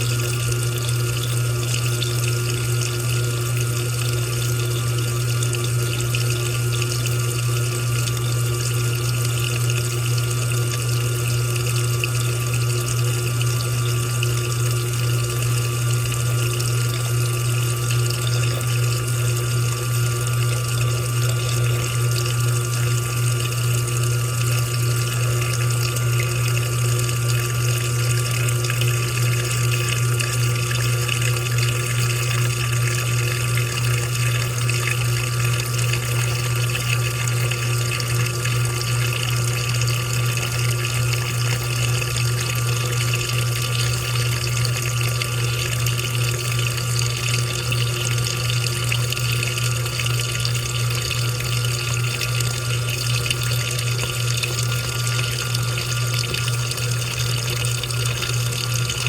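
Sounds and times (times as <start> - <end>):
washing machine motor hum: 0.0 - 59.0
water rushing in washing machine: 0.0 - 59.0.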